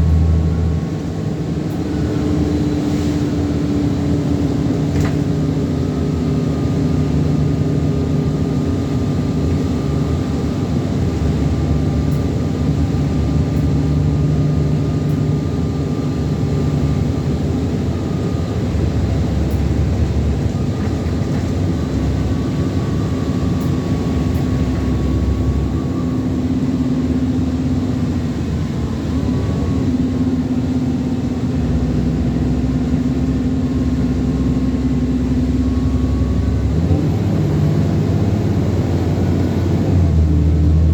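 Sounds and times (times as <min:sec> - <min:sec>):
bus diesel engine drone: 0:00.0 - 0:40.9.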